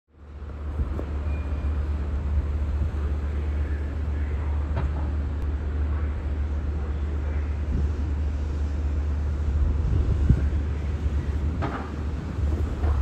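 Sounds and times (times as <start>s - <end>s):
train low rumble: 0.1s - 13.0s
station noise: 0.2s - 13.0s.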